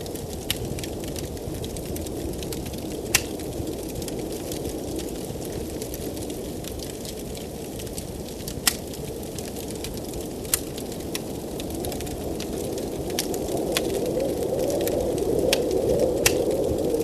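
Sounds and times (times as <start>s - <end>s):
low blizzard wind: 0.0s - 17.0s
wood fire crackling and popping: 0.0s - 17.0s.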